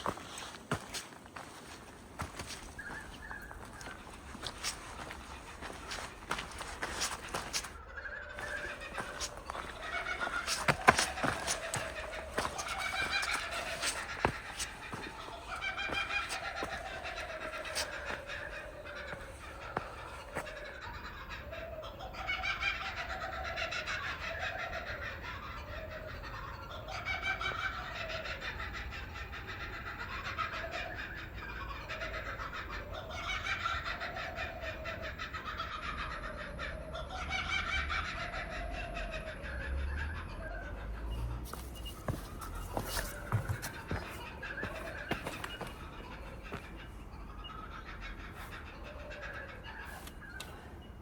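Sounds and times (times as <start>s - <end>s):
birds calling: 0.0s - 51.0s
birds chattering: 0.0s - 51.0s.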